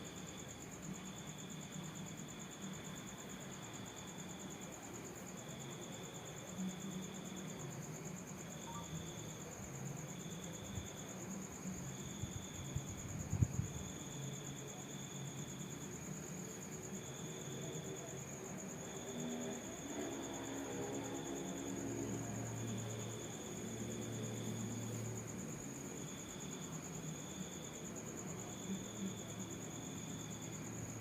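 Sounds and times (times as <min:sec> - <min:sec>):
insects trilling: 0:00.2 - 0:31.0.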